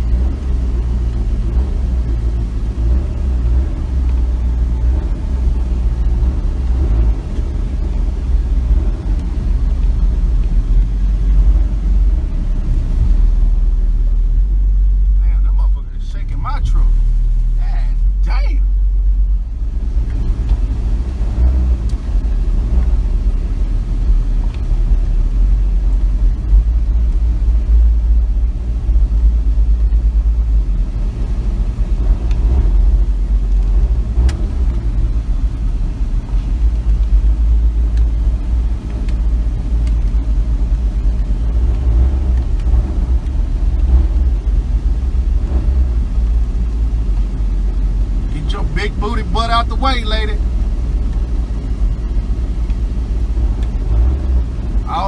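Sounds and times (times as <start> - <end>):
pickup engine rumble: 0.0 - 55.0
road noise: 0.0 - 55.0.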